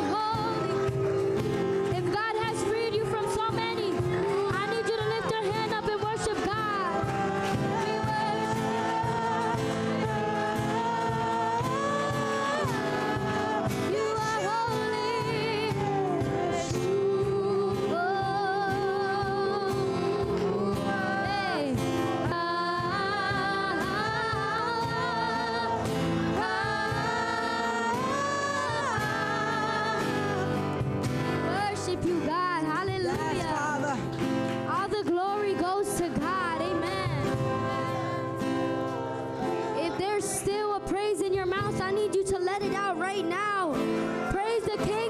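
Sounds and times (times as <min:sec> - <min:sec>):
gospel singing: 0:00.0 - 0:45.0.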